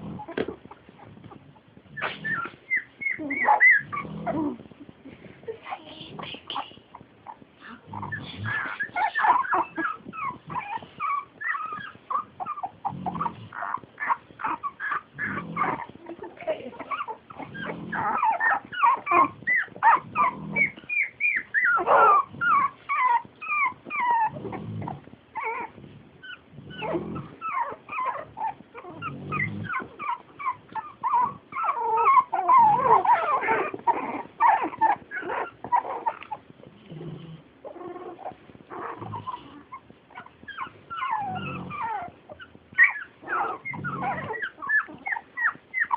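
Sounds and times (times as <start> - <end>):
puppies whimpering and squeaking: 0.0 - 45.9
pig snoring: 1.1 - 2.6, 3.6 - 4.6, 7.6 - 16.0, 16.9 - 39.8, 40.5 - 45.9.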